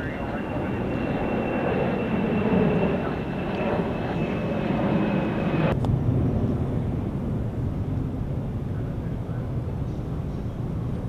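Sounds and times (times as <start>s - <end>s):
distant engines rumbling: 0.0s - 11.0s.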